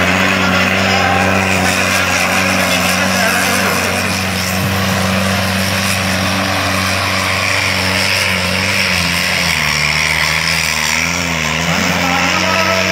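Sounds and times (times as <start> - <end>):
tractor engine under heavy load: 0.0 - 12.9.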